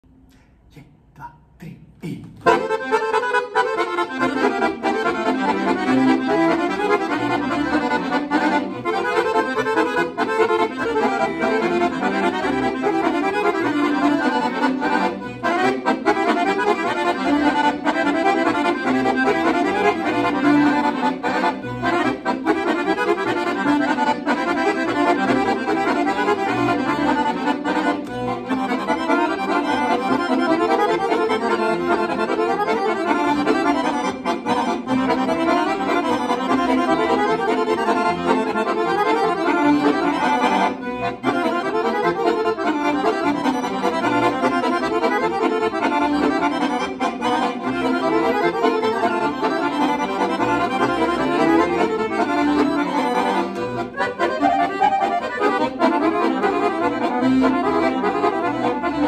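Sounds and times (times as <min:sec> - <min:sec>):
accordion duet playing dance tune: 0:01.7 - 0:59.0.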